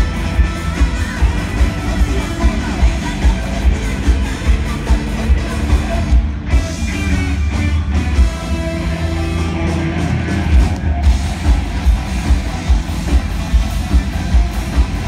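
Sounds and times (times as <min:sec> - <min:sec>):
driving drum beat: 0:00.0 - 0:15.0
electric guitar: 0:00.0 - 0:15.0.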